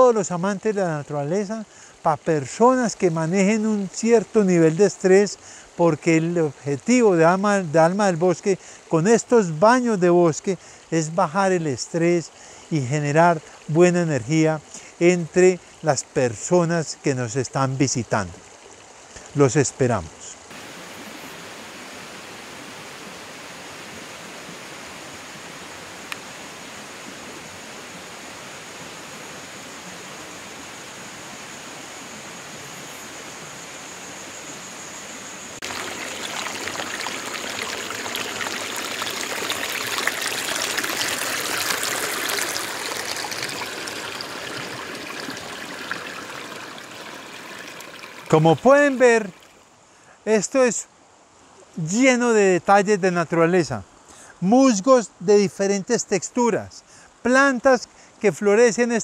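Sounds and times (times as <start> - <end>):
stream rushing over stones: 0.0 - 54.8.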